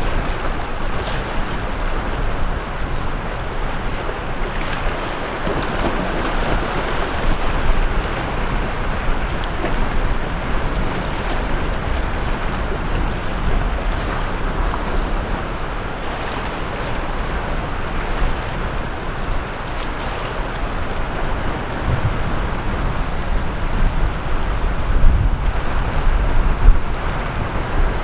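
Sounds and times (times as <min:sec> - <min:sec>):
sea waves washing onto shore: 0:00.0 - 0:28.0
wind rumbling on microphone: 0:00.0 - 0:28.0.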